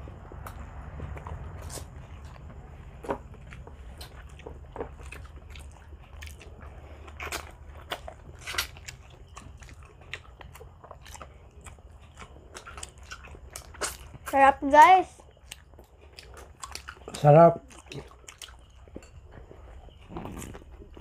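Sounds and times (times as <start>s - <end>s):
chewing and biting meat: 0.0s - 14.4s, 15.2s - 21.0s.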